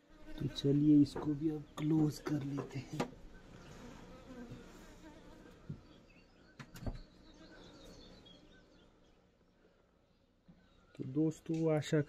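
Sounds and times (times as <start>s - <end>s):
bees buzzing faintly: 0.0s - 12.0s.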